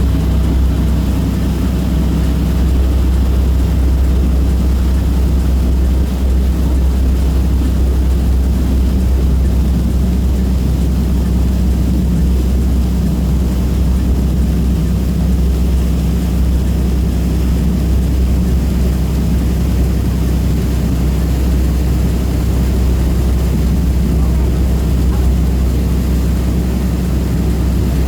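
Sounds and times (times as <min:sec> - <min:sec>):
ferry engines droning: 0:00.0 - 0:28.0.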